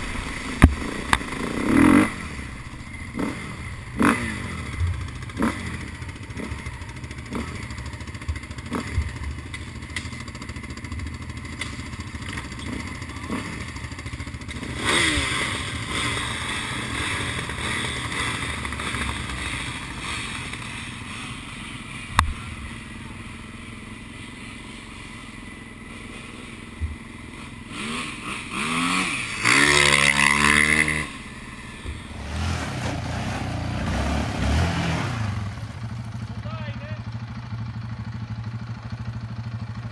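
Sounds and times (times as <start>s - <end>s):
engine revving: 0.0s - 23.2s, 25.9s - 36.8s
quad bike engines idling: 0.0s - 39.9s.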